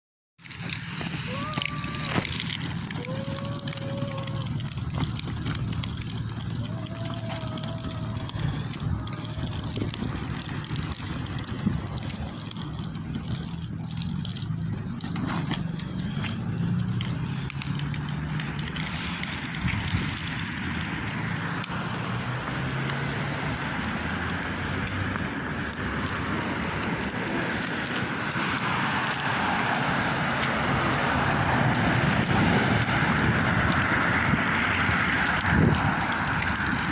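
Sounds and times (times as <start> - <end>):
broad rushing noise: 0.4 - 36.9.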